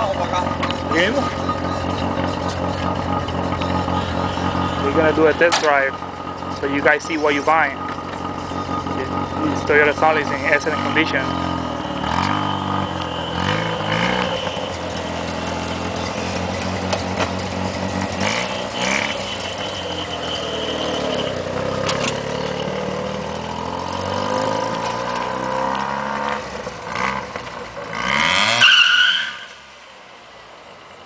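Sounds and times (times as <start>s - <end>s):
rotary engine revving: 0.0s - 29.6s.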